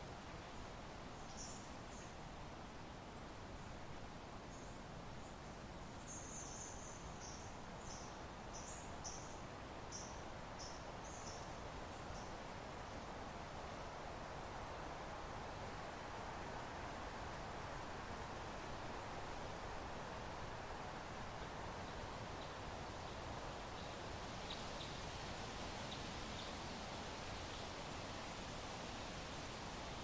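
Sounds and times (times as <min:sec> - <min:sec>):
soft wind: 0:00.0 - 0:30.0.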